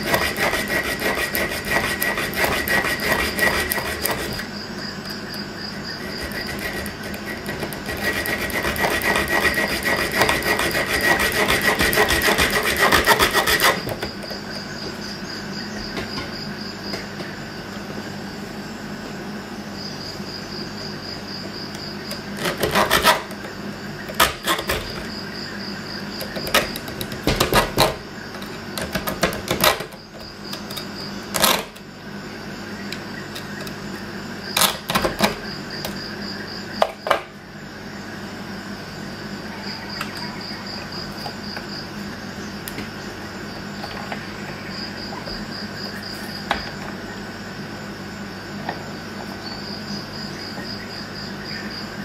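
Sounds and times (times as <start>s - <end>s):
crickets chirping: 0.0s - 52.0s.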